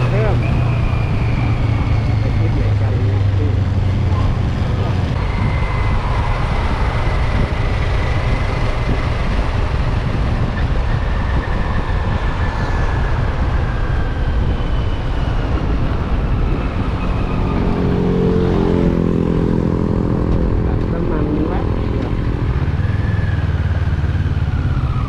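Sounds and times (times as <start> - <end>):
motorcycle engine: 0.0 - 25.0
wind rush on microphone: 0.0 - 25.0.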